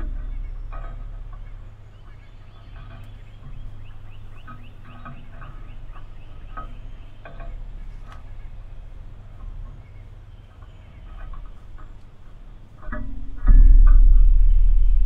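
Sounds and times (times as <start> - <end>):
birds chirping: 0.0 - 15.0
low bird call notes: 0.0 - 15.0
steady low hum: 0.0 - 15.0.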